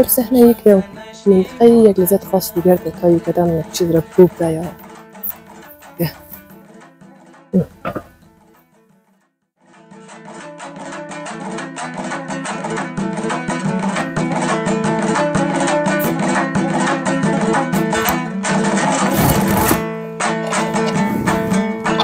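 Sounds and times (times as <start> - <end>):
plucked string instrument music: 0.0 - 8.9, 9.6 - 22.0.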